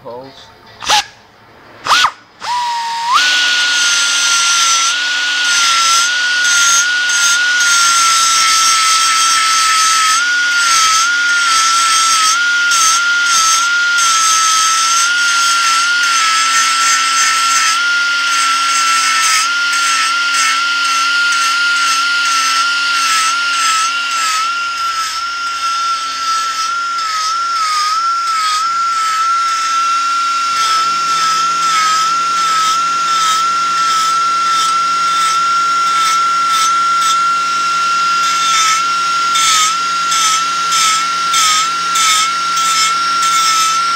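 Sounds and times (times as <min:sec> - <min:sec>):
belt sander grinding metal: 0:01.8 - 0:43.9.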